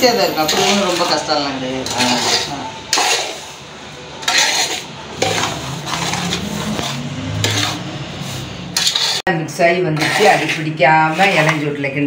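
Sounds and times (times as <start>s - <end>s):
metal spatula scraping a pot: 0.0s - 12.0s.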